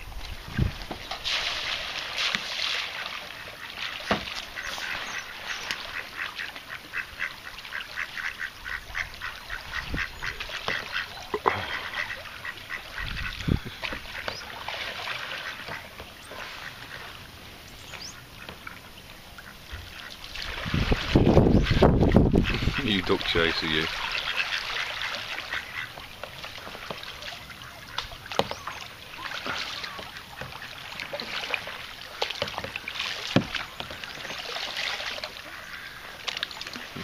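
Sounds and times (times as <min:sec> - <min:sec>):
ducks quacking: 0:03.2 - 0:17.2, 0:19.4 - 0:32.3, 0:33.8 - 0:37.0.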